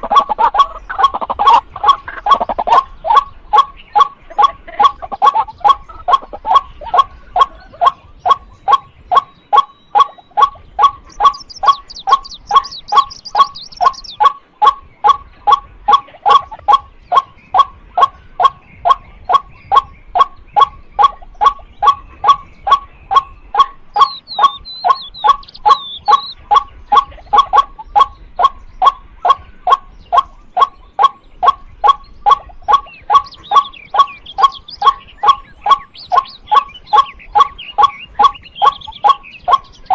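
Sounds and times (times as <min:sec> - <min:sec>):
bird chirping: 0:00.0 - 0:39.9
waterhen calling kwak notes: 0:00.0 - 0:39.9.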